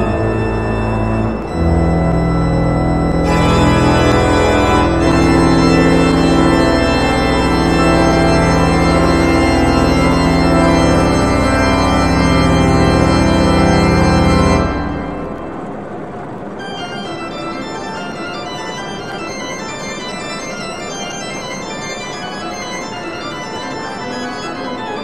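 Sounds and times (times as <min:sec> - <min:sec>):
organ playing held chords: 0:00.0 - 0:25.0.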